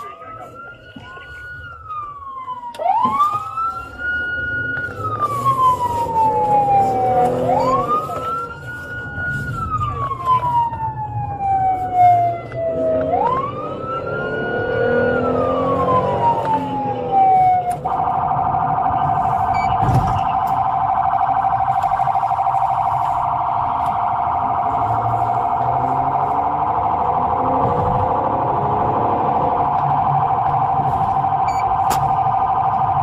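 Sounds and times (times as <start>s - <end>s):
police siren: 0.0s - 33.0s.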